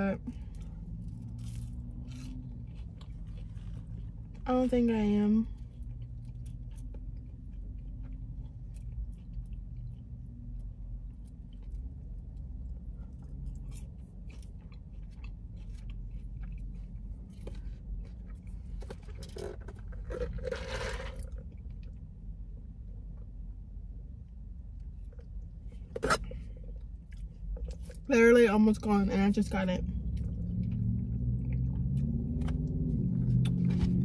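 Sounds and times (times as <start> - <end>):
low hum inside a car: 0.0 - 34.0
chewing and crunching fries: 0.2 - 28.1, 29.9 - 34.0.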